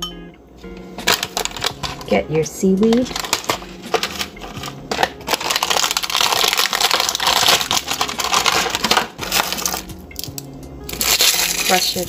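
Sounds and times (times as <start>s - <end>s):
plastic packet crinkling: 1.0s - 2.2s, 2.8s - 12.0s.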